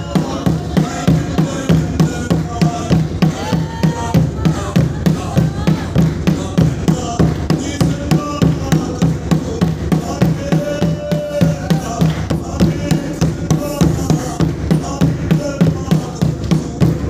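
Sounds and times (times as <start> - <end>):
spiritual song singing: 0.0 - 17.0
steady drum beat: 0.0 - 17.0.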